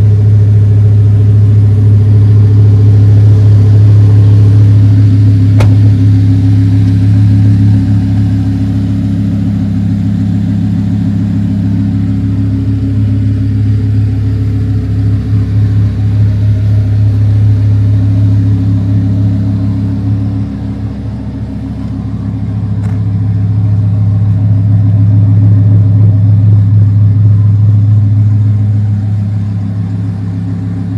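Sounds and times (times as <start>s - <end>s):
car engine droning at low speed: 0.0s - 30.9s.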